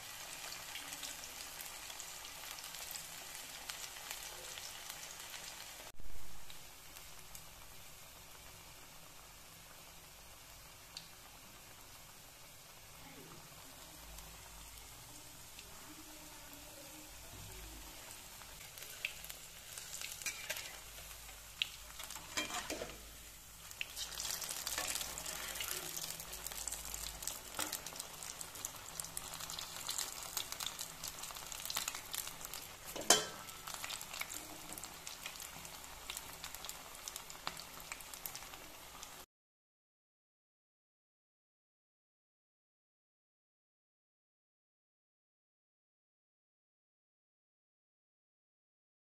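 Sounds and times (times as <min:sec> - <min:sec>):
food deep-frying in bubbling oil: 0:00.0 - 0:39.3.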